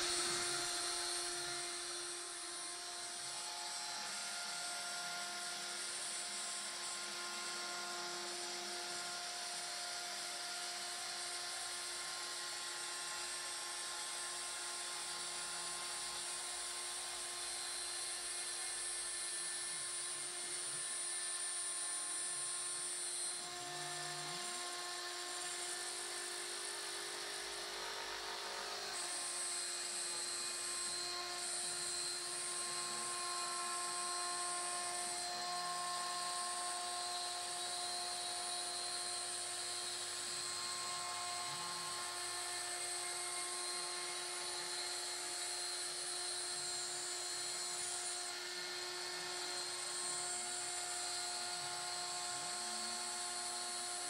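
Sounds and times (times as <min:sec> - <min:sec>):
router spindle milling wood: 0:00.0 - 0:54.0.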